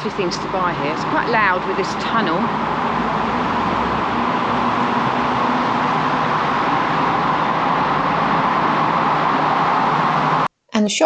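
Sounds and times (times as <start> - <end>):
road traffic in a tunnel: 0.0 - 10.5.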